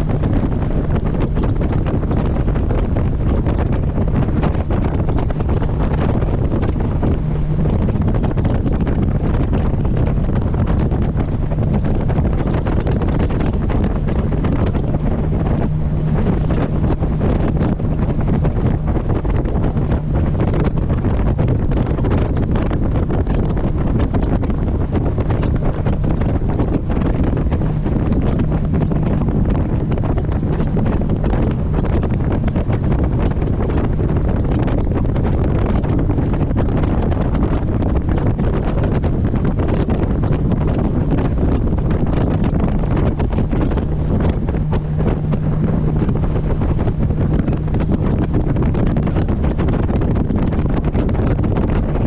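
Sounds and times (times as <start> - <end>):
boat engine drone: 0.0 - 52.0
water rushing past hull: 0.0 - 52.0
wind buffeting microphone: 0.0 - 52.0.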